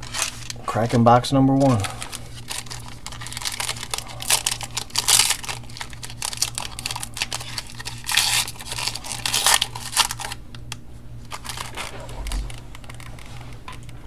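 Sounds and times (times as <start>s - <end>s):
foil pack tearing and crinkling: 0.0s - 0.6s, 1.6s - 10.5s, 11.2s - 13.5s.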